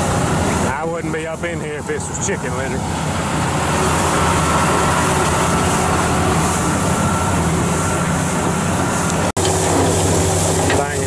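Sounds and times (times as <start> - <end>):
rumble of rig moving over field: 0.0 - 11.0
tractor diesel engine running: 0.0 - 11.0.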